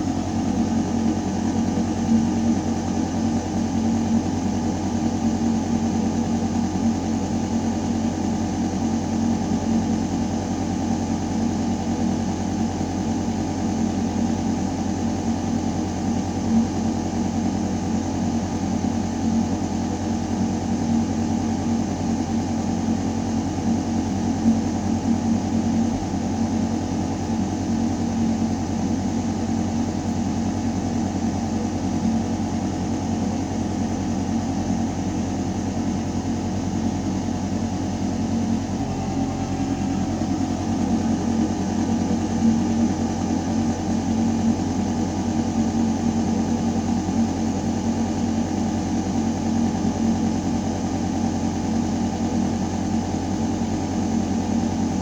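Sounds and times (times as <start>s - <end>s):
ventilation system humming: 0.0s - 13.6s, 17.5s - 55.0s.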